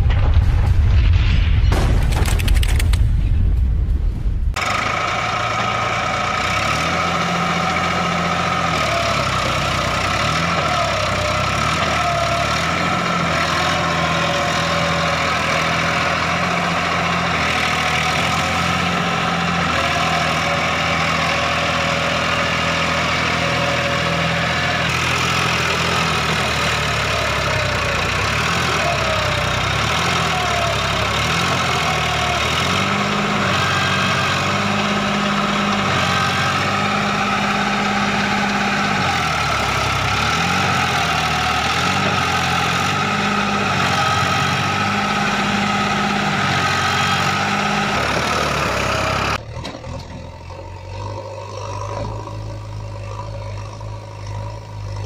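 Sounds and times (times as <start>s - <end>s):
vehicle engine revving: 4.5s - 55.0s.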